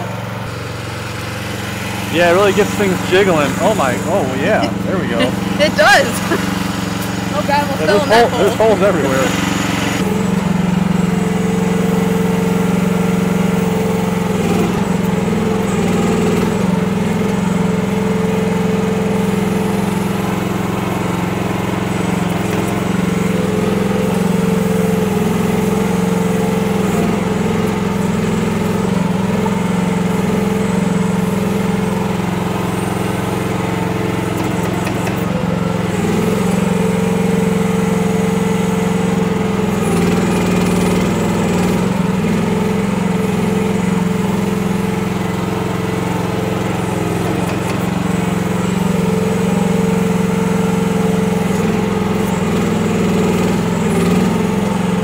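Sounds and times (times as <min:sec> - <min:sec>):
small excavator engine running: 0:00.0 - 0:55.0.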